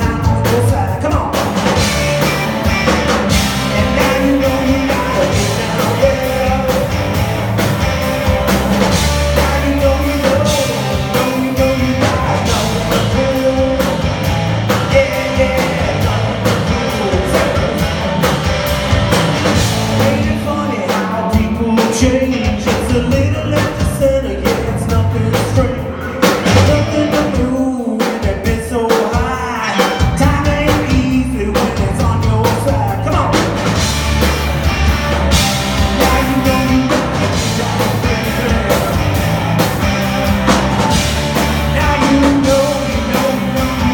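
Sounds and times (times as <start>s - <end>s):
person singing: 0.0s - 7.3s, 8.8s - 18.0s, 19.6s - 33.9s, 35.3s - 43.9s
electric guitar: 0.0s - 27.6s, 29.2s - 43.9s
drum kit: 0.0s - 43.9s.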